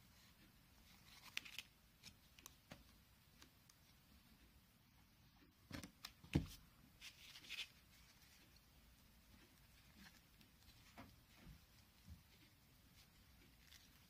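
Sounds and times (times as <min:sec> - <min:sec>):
soft rustling of ribbon: 0:00.0 - 0:14.0.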